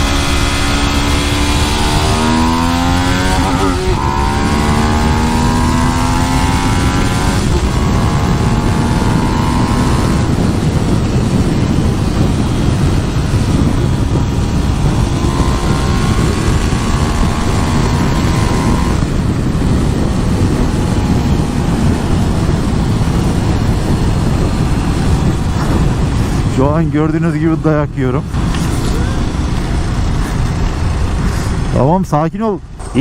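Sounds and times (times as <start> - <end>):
motorcycle engine accelerating: 0.0 - 31.9
wind rush on microphone: 0.0 - 33.0.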